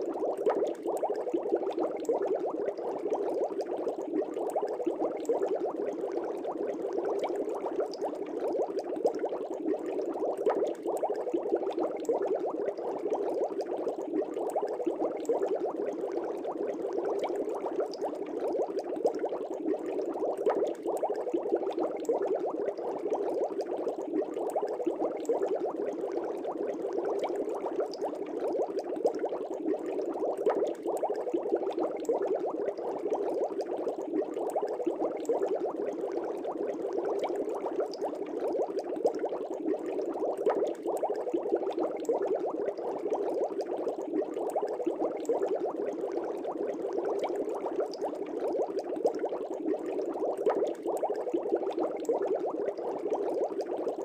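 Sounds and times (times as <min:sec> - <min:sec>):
aquarium air bubbling: 0:00.0 - 0:54.0.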